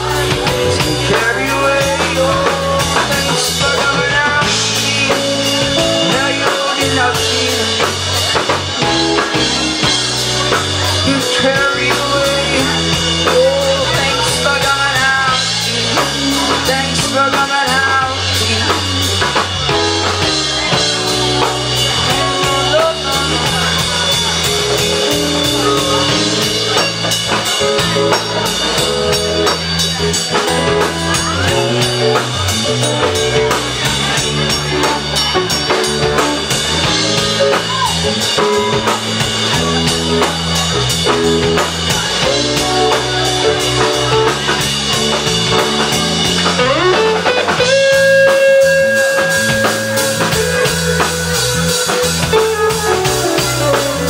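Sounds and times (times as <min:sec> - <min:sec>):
bass: 0:00.0 - 0:54.0
drum kit: 0:00.0 - 0:54.0
guitar: 0:00.0 - 0:54.0.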